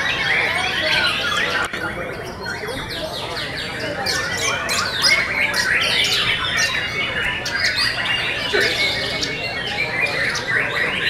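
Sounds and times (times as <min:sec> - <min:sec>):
birds singing whistled phrases: 0:00.0 - 0:11.0.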